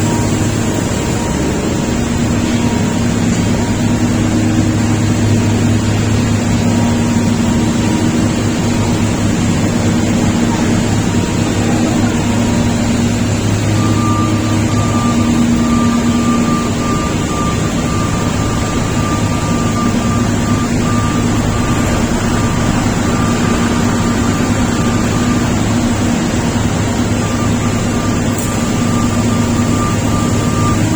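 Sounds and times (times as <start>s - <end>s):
bulldozer diesel engine running: 0.0s - 30.9s
thin high whine: 0.0s - 30.9s.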